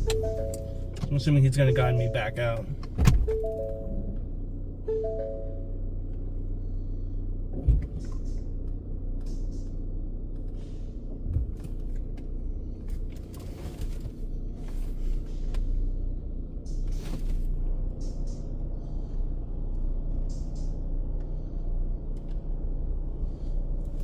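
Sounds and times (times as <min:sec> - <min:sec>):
car idling: 0:00.0 - 0:24.0.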